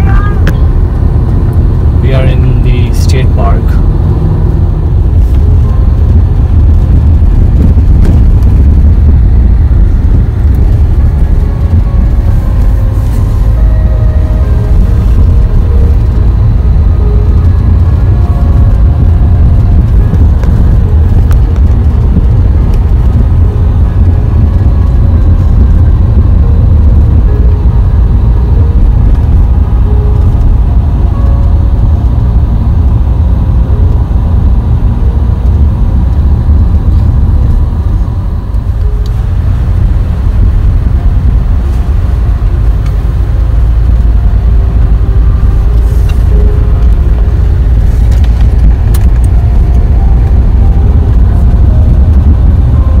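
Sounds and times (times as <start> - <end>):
tyre and engine rumble: 0.0 - 53.0.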